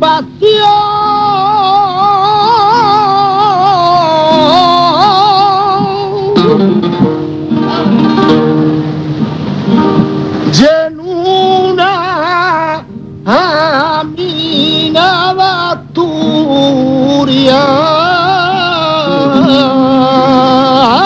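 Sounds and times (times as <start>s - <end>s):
man singing flamenco: 0.0s - 8.4s, 10.4s - 21.0s
flamenco guitar: 0.0s - 21.0s.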